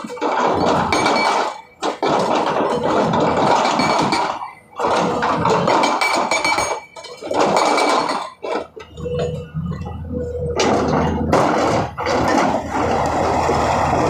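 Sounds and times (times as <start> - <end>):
excavator engine humming: 0.0 - 14.0
hydraulic rock breaker hammering: 0.0 - 14.0.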